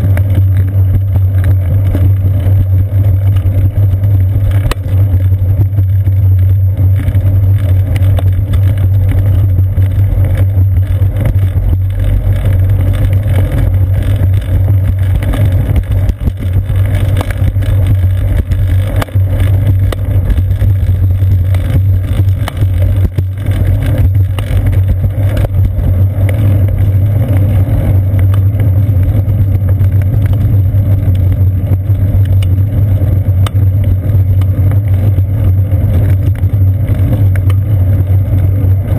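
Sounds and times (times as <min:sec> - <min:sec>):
bicycle rumble: 0:00.0 - 0:38.9
wind on camera: 0:00.0 - 0:38.9.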